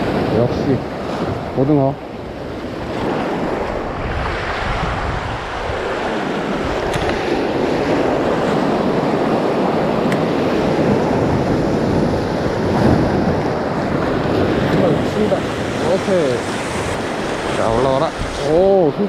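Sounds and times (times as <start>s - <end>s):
waves breaking on rocks: 0.0s - 19.0s
wind buffeting microphone: 0.0s - 19.0s.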